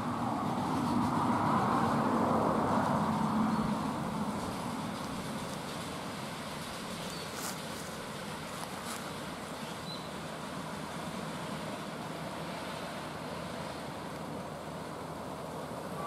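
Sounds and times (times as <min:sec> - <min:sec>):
miniature train rumbling on track: 0:00.0 - 0:16.0.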